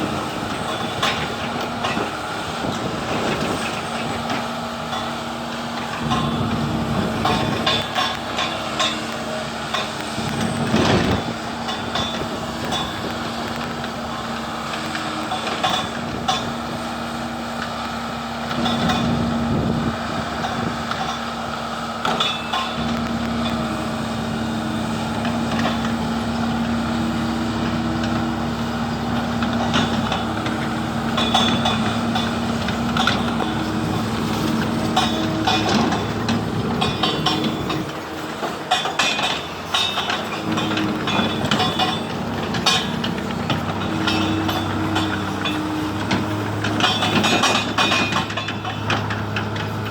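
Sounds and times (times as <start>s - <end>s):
excavator diesel engine humming: 0.0s - 49.9s
metallic clanks and knocks: 0.4s - 16.8s, 18.5s - 21.3s, 22.0s - 49.9s.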